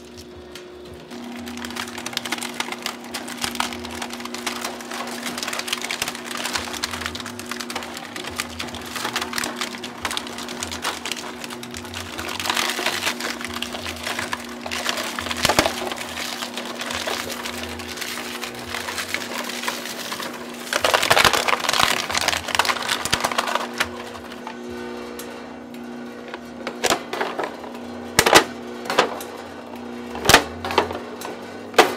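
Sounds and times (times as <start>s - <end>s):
plastic cracking and crunching: 0.0s - 24.6s, 26.2s - 29.4s, 30.1s - 31.9s
electric motor humming: 0.0s - 30.9s.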